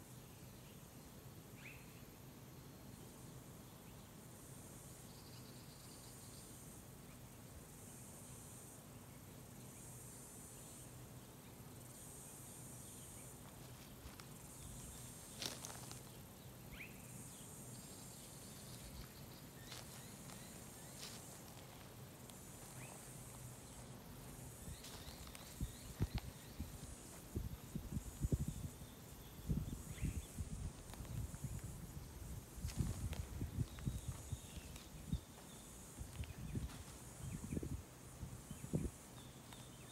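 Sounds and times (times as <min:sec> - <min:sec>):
insect chirring: 0:04.3 - 0:39.9.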